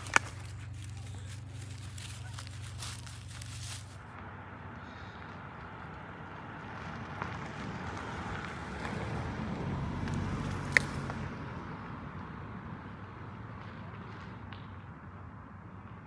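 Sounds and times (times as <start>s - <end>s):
car passing: 0.0s - 14.5s.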